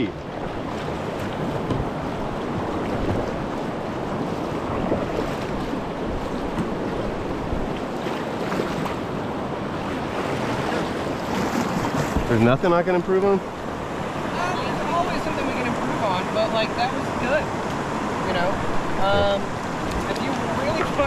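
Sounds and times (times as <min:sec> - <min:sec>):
whitewater rushing: 0:00.0 - 0:21.0.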